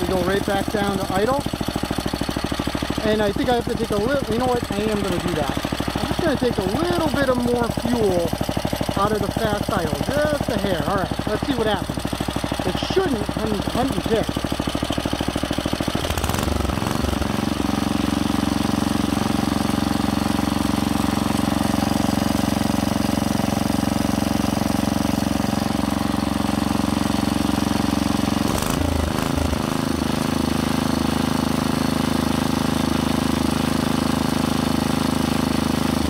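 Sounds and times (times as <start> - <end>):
small engine running at high speed: 0.0 - 36.0.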